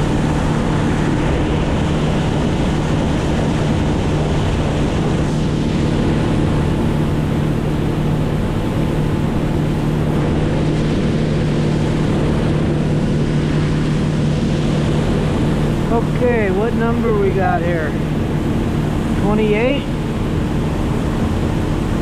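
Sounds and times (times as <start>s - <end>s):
motorboat engine running: 0.0s - 22.0s
water rushing past hull: 0.0s - 22.0s
wind on microphone: 0.0s - 22.0s.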